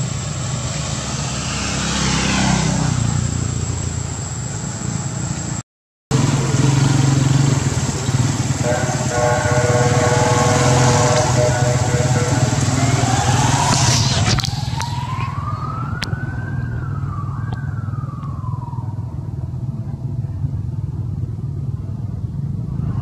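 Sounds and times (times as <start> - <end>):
engine pitch rising and falling: 0.0 - 23.0
passing traffic hum: 0.0 - 23.0.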